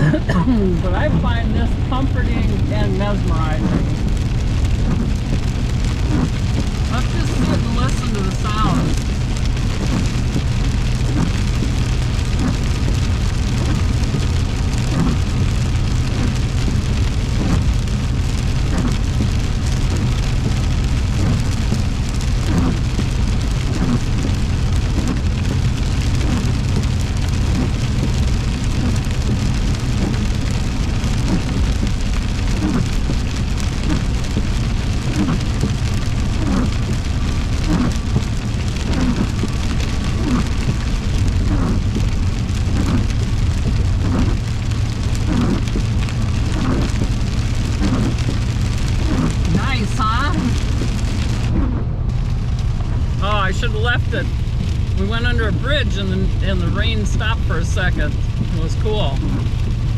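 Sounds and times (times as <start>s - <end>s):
heavy rain on a car: 0.0s - 59.9s
road and engine rumble: 0.0s - 59.9s.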